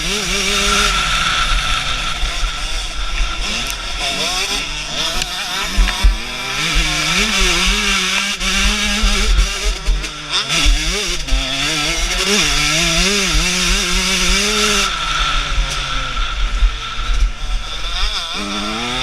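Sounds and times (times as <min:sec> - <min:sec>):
motocross engine revving: 0:00.0 - 0:19.0
low rumble and thumps: 0:00.2 - 0:17.9.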